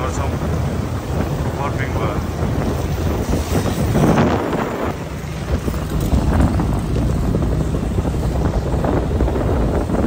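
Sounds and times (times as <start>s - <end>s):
motorcycle running: 0.0s - 10.0s
wind buffeting microphone: 0.0s - 10.0s.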